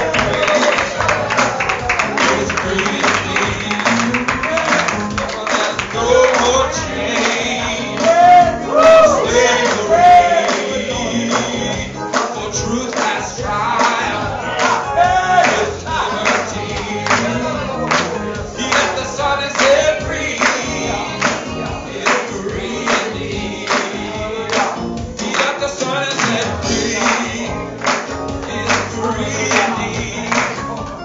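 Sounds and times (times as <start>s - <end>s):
congregation singing gospel: 0.0s - 31.0s
steady beat: 0.0s - 31.0s.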